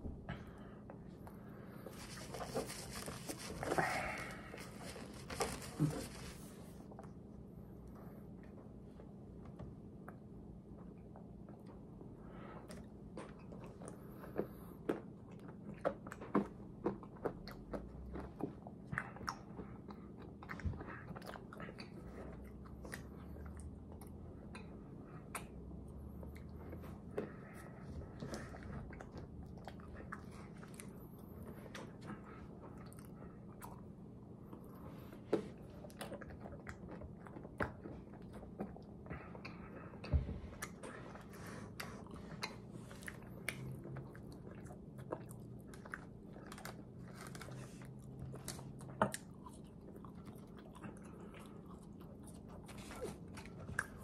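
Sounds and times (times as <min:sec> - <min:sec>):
steady low hum: 0:00.0 - 0:54.0
person chewing and crunching food: 0:00.3 - 0:07.5, 0:11.0 - 0:54.0.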